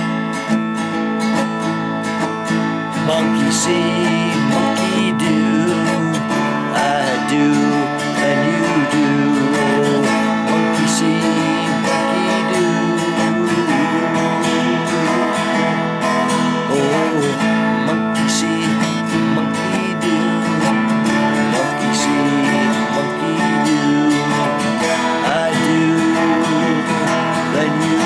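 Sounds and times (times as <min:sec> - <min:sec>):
acoustic guitar strummed: 0:00.0 - 0:28.0.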